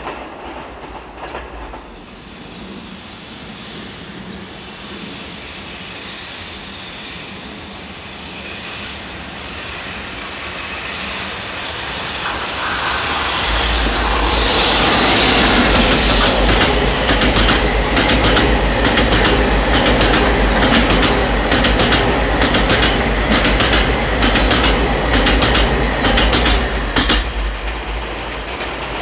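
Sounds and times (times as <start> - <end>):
electric locomotive passing: 0.0 - 29.0
low rail rumble: 0.0 - 29.0.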